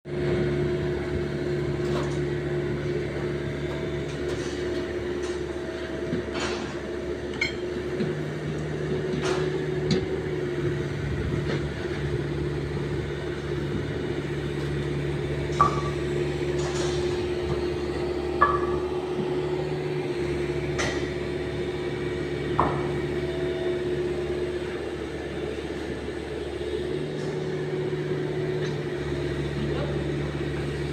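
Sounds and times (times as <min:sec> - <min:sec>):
excavator engine running: 0:00.1 - 0:30.9.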